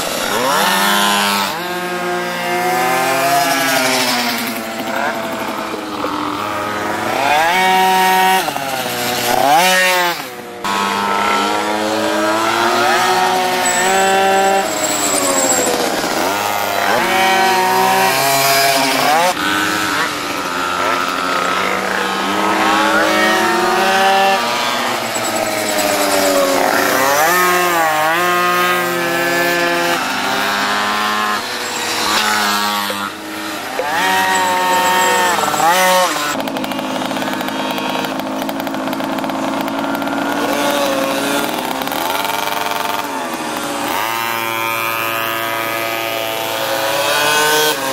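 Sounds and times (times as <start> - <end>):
racing motorcycle engines revving: 0.0 - 47.9.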